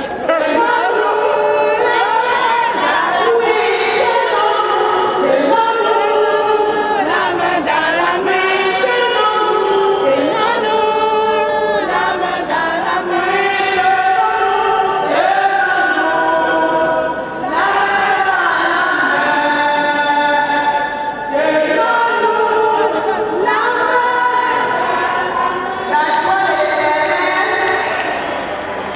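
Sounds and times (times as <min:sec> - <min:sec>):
choir singing a hymn: 0:00.0 - 0:28.9.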